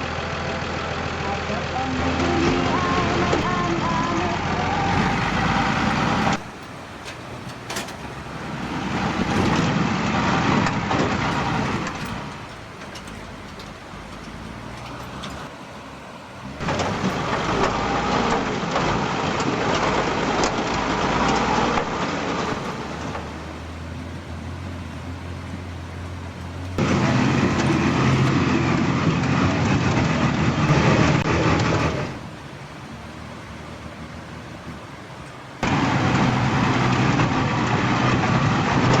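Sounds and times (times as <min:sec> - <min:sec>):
truck engine running under load: 0:00.0 - 0:39.0.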